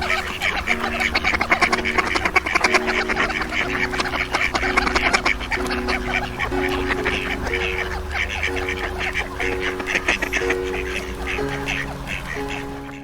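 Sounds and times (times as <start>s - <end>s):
background music: 0.0s - 13.0s
ducks quacking: 0.0s - 13.0s.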